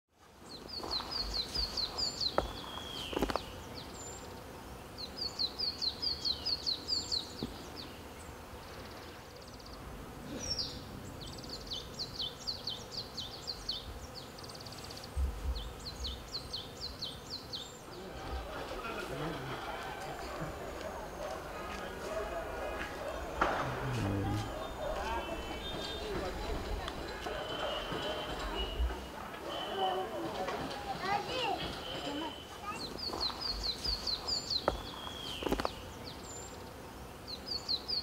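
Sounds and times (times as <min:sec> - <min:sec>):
background hiss: 0:00.1 - 0:38.0
birds chirping: 0:00.4 - 0:38.0.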